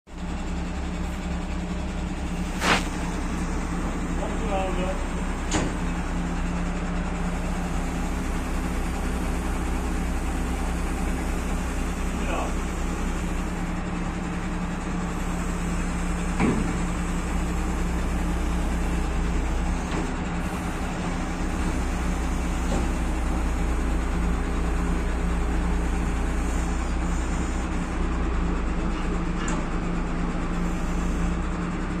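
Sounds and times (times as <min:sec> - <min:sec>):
truck diesel engine running: 0:00.1 - 0:32.0.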